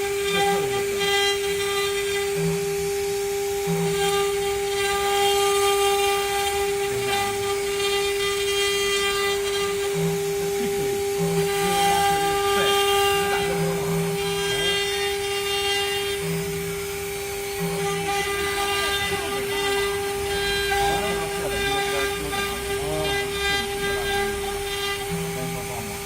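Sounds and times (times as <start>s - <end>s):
cnc router high whine: 0.0s - 26.0s
gliding machine tones: 0.0s - 26.0s.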